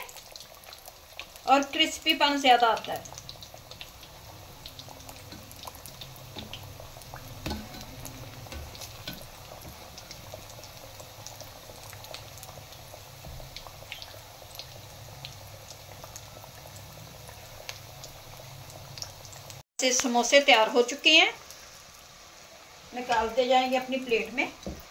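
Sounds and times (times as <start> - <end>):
deep-frying sizzle with pops: 0.0 - 24.9.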